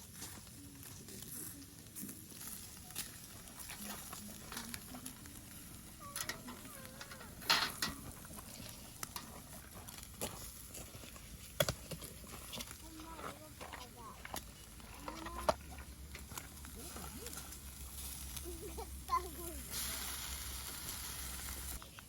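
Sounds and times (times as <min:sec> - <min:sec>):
fire crackling and popping: 0:00.0 - 0:22.0
meat sizzling over embers: 0:00.0 - 0:22.0.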